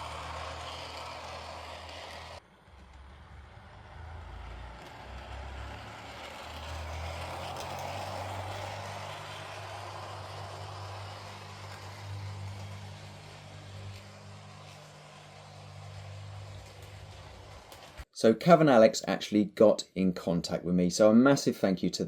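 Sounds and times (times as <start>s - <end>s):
model train motor and gears running: 0.0s - 19.4s.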